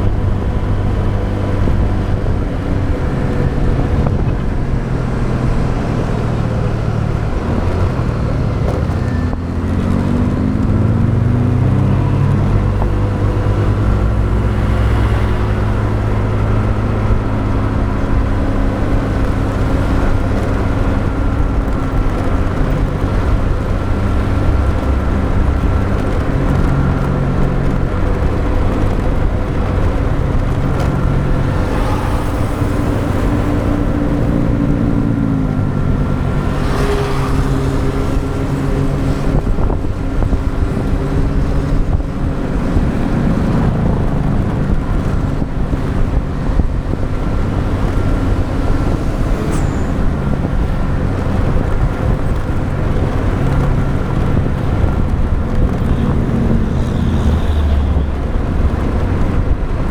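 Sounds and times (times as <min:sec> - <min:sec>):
motorbike engine running: 0:00.0 - 0:59.9
road traffic: 0:00.0 - 0:59.9.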